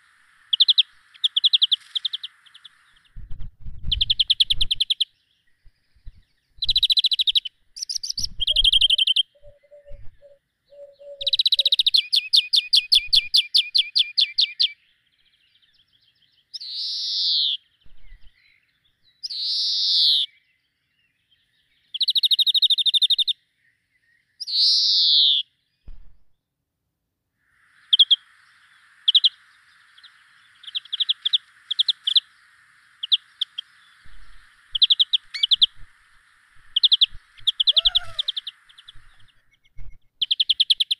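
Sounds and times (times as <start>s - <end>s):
small birds singing: 0.0s - 26.6s, 27.5s - 40.9s
faint steady hiss: 0.0s - 40.9s.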